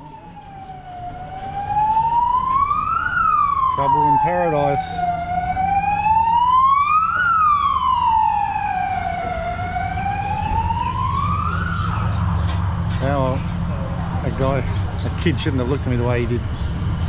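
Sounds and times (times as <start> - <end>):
emergency vehicle siren wailing: 0.0 - 15.2
steady low rumble: 0.0 - 17.0.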